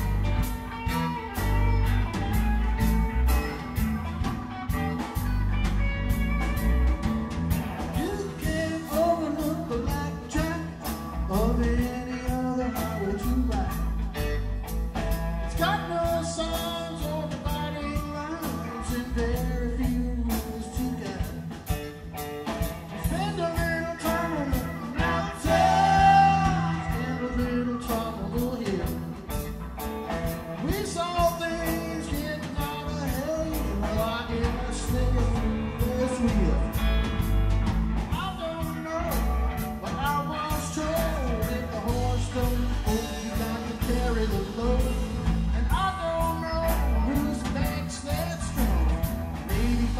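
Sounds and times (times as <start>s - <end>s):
bass guitar: 0.0s - 49.9s
drums: 0.0s - 49.9s
electric guitar lead: 0.0s - 49.9s.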